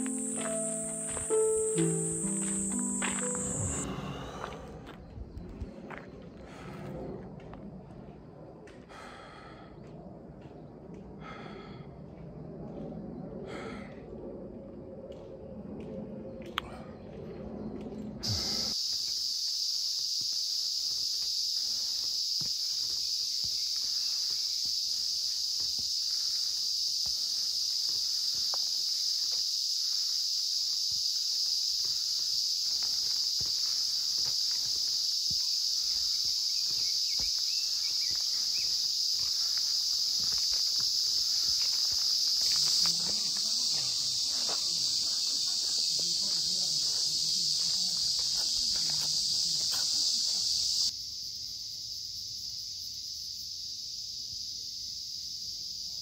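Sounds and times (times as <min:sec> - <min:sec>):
footsteps on trail: 0:00.0 - 0:12.9, 0:15.1 - 0:50.9
cicadas droning: 0:00.0 - 0:56.0.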